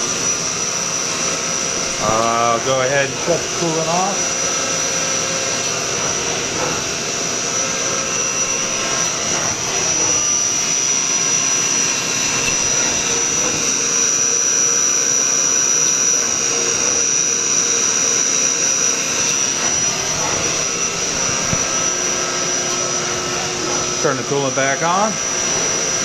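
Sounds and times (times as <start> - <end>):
machine running noise: 0.0 - 26.0
milling spindle high-pitched whine: 0.0 - 26.0.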